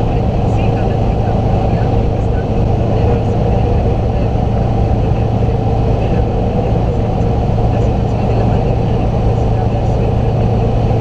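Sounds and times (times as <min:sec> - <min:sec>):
diesel engine droning: 0:00.0 - 0:11.0
road and wind noise: 0:00.0 - 0:11.0.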